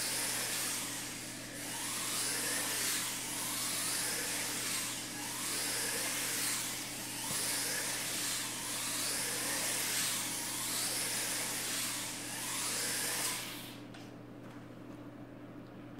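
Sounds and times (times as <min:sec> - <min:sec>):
rc car motor whining: 0:00.0 - 0:13.8.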